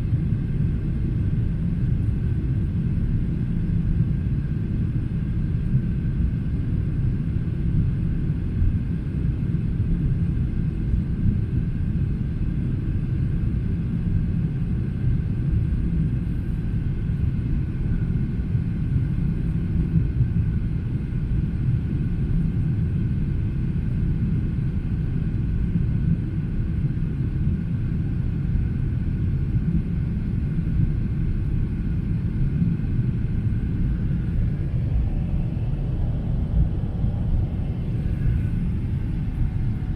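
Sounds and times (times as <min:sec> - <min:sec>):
airplane cabin engine rumble: 0:00.0 - 0:39.9
faint steady whine: 0:00.0 - 0:39.9.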